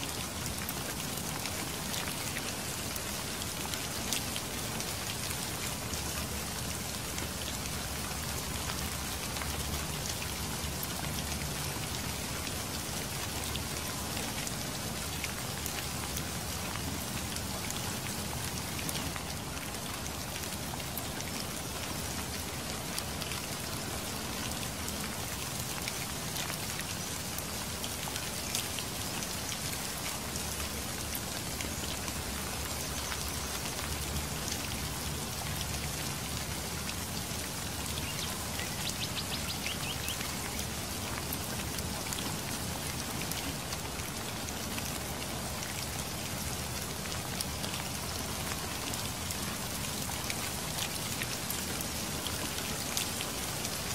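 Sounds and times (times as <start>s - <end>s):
rain drops striking: 0.0s - 53.9s
steady rain hiss: 0.0s - 53.9s.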